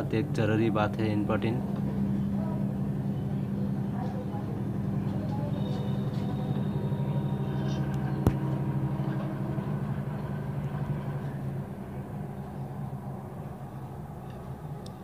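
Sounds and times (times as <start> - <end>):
low mechanical hum and rumble: 0.0 - 15.0.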